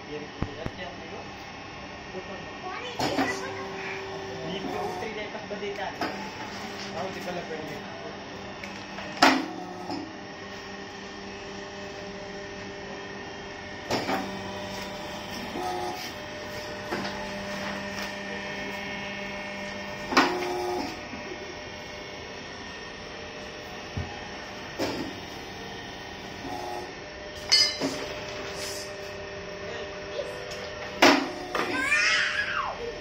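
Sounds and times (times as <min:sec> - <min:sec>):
hydraulic press motor hum: 0:02.5 - 0:33.0.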